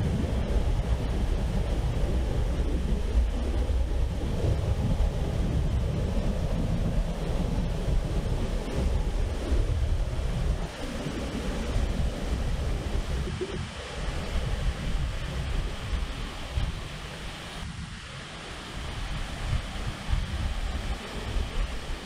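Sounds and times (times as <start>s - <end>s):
rushing water: 0.0s - 22.0s
wind buffeting microphone: 0.0s - 22.0s.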